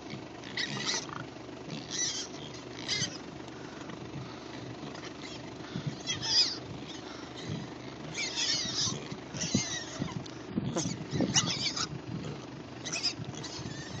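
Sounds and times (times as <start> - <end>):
piglets squealing: 0.0 - 14.0
pigs grunting: 0.0 - 14.0.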